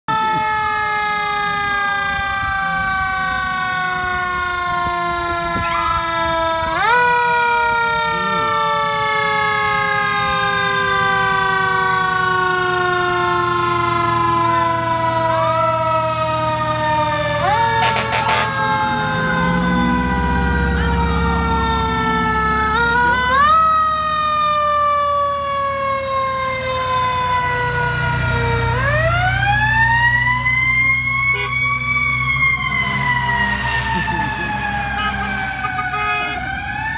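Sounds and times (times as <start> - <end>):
fire engine siren wailing: 0.0 - 36.9
faint second siren: 0.1 - 36.9
heavy truck engine rumble: 0.1 - 36.9.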